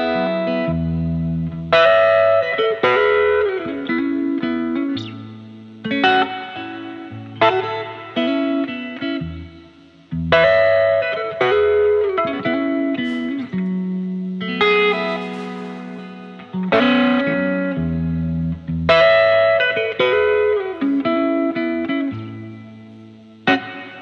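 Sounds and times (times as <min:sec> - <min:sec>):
guitar playing slow chords: 0:00.0 - 0:24.0.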